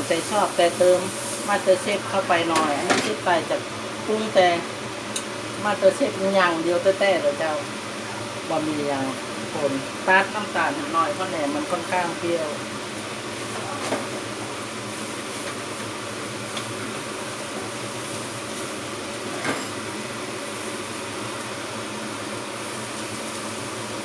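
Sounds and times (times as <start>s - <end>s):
stir-fry sizzling in a pan: 0.0s - 24.0s.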